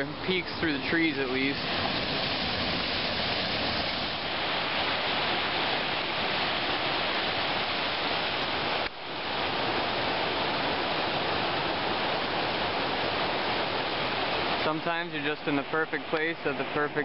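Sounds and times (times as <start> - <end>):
river rushing over rocky waterfall: 0.0 - 17.0.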